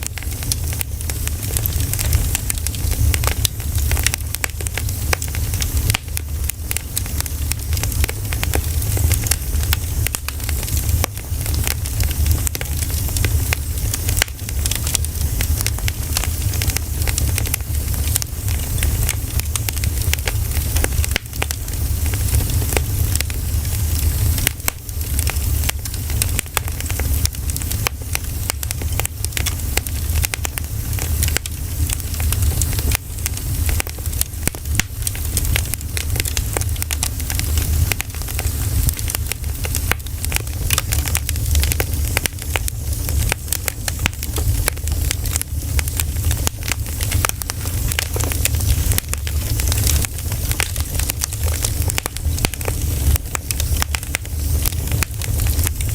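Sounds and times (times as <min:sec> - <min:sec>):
campfire crackling and popping: 0:00.0 - 0:55.9
fire low rumble: 0:00.0 - 0:55.9.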